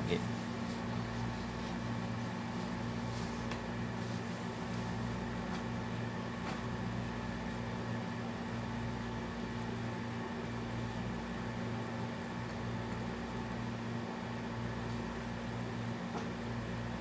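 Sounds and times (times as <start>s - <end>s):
pulsing low mechanical hum: 0.0s - 17.0s.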